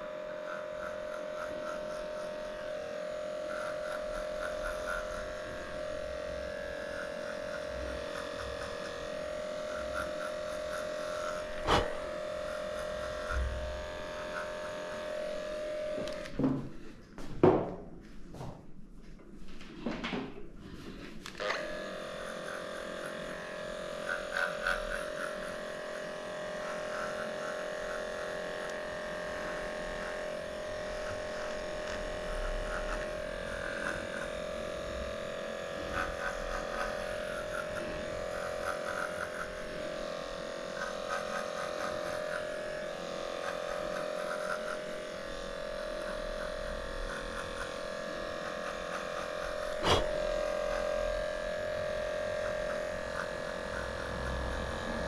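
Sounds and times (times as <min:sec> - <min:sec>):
electric pet clipper humming: 0:00.0 - 0:16.9, 0:20.6 - 0:55.0.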